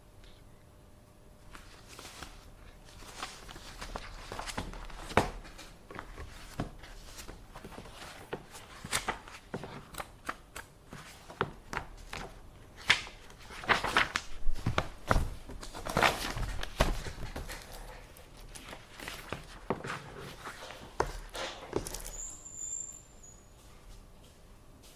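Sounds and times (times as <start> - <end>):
paper rustling: 1.5 - 22.3.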